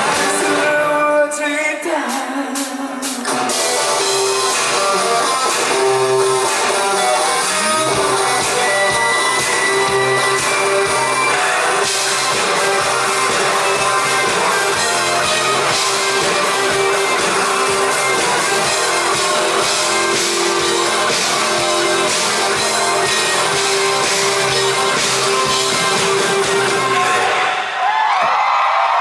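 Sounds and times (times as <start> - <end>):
live rock band playing: 0.0 - 1.2, 2.0 - 27.6.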